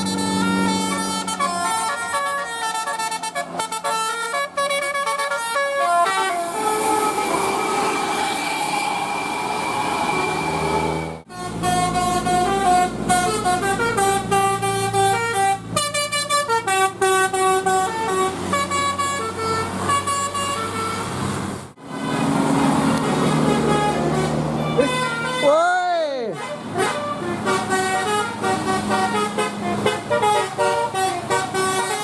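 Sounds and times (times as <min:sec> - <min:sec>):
heavy bus engine running: 0:00.0 - 0:08.1, 0:09.8 - 0:32.0
multi-tone air horn tune: 0:00.0 - 0:08.1, 0:11.2 - 0:21.1, 0:21.9 - 0:32.0.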